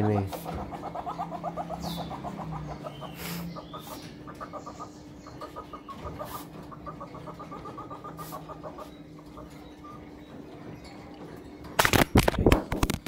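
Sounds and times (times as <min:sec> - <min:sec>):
rapid clucking chatter: 0:00.0 - 0:11.6.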